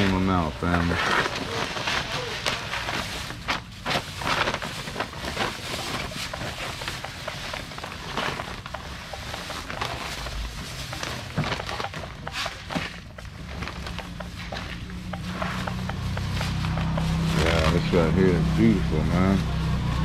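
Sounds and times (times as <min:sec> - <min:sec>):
plastic bags rustling and crinkling: 0:00.0 - 0:20.0.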